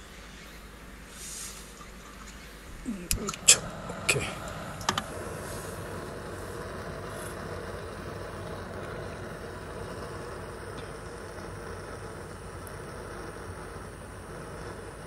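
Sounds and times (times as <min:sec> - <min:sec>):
gas stove burner hissing: 0:00.0 - 0:15.0.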